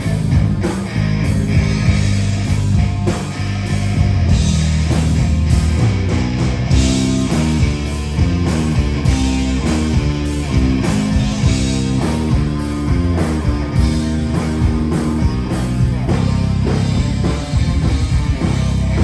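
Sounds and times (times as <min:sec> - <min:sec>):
rock band playing loudly: 0:00.0 - 0:19.0.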